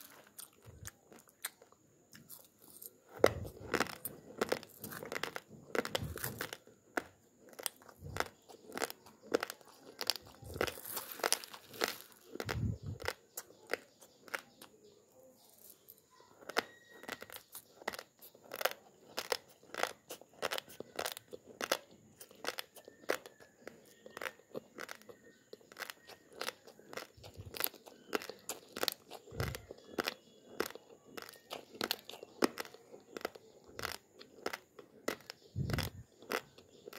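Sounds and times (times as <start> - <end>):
crunching of chewed rice: 0.0 - 36.9.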